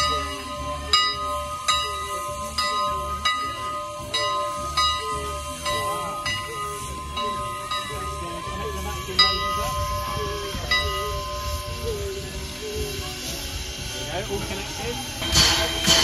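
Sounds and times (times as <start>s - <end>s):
locomotive bell ringing: 0.0s - 16.0s
steam hissing: 0.0s - 16.0s.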